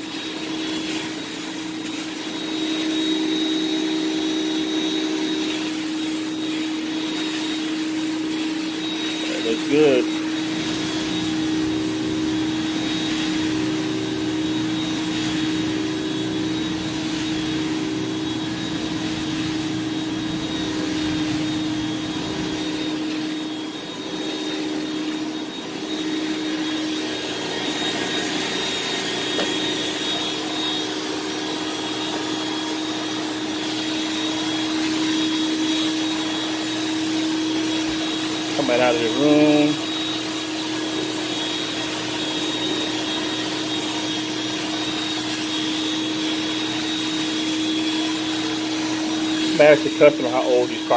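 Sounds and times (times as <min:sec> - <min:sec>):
carpet extraction wand suction: 0:00.0 - 0:50.9.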